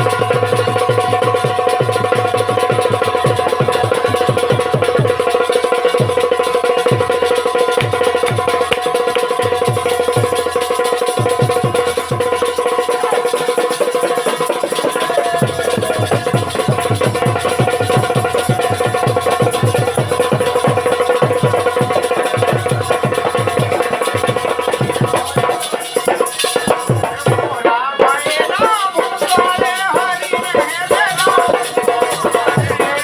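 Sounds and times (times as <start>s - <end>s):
held folk melody line: 0.0s - 33.0s
light percussion: 0.0s - 33.0s
rapid drum strokes: 0.0s - 33.0s.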